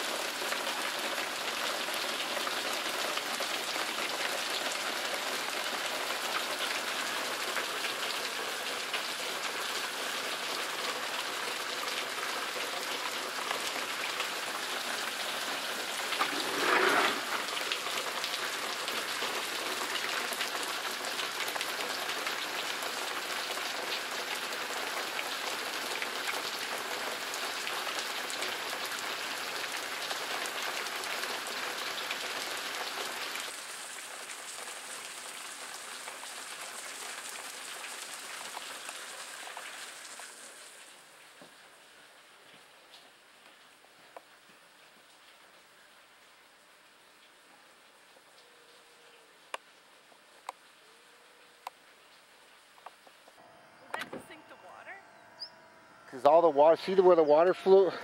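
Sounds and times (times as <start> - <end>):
heavy rain falling: 0.0 - 48.3.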